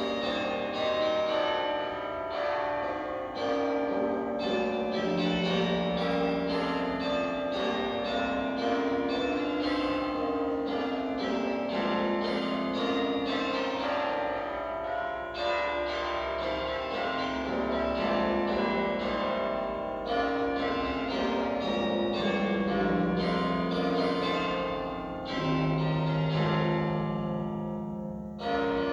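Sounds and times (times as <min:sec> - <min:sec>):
church bells ringing a peal: 0:00.0 - 0:28.9.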